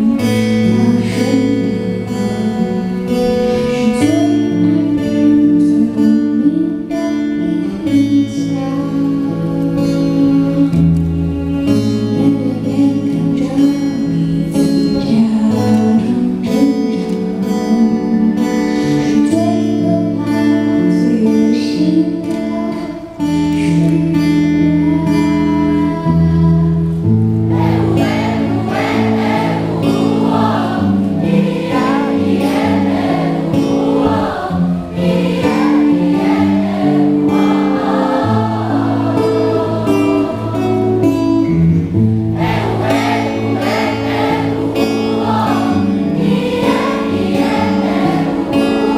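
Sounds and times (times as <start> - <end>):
woman singing: 0.0 - 41.6
live pop music: 0.0 - 48.9.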